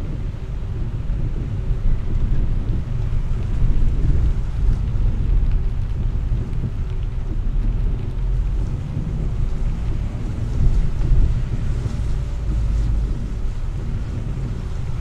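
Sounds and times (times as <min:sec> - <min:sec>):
car rumbling on wet street: 0:00.0 - 0:15.0
rain ticking on windscreen: 0:00.0 - 0:15.0.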